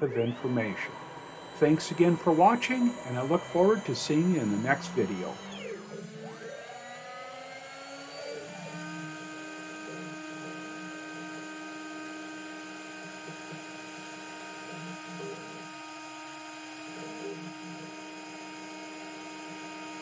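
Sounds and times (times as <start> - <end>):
router spindle whine: 0.0 - 20.0.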